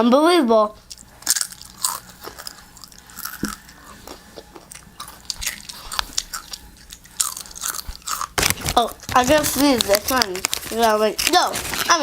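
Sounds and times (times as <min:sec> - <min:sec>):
tortilla chips being chewed: 0:00.8 - 0:12.0.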